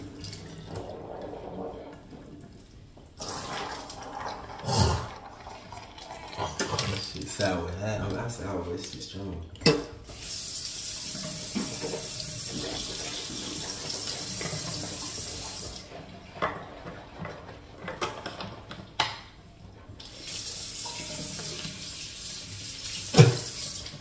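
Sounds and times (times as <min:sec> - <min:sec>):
tap running water: 0:00.0 - 0:24.0.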